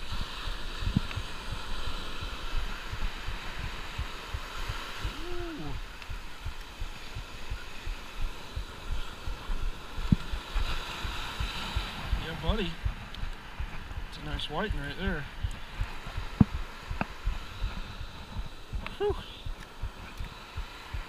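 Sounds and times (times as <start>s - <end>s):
surf: 0.0s - 21.0s
wind noise: 0.0s - 21.0s.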